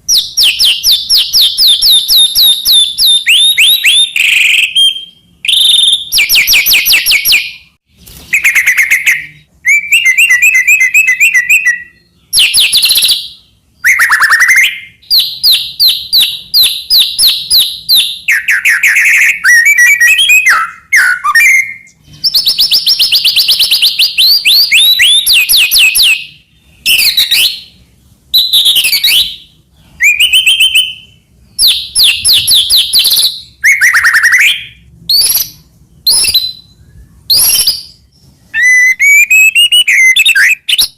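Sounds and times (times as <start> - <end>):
songbird trills and whistles: 0.0 - 40.9.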